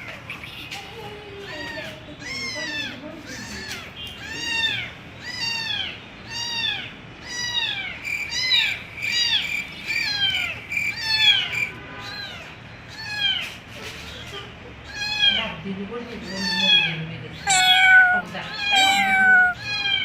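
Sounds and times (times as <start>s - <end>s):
cat meowing: 1.6s - 13.5s, 14.8s - 15.5s, 16.2s - 20.0s.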